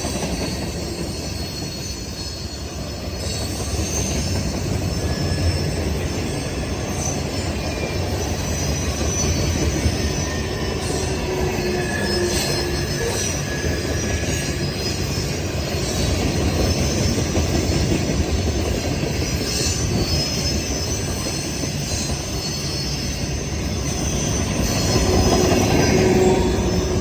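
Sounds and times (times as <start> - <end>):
steel wheels rumbling on rails: 0.0 - 27.0
high wheel squeals: 0.1 - 27.0.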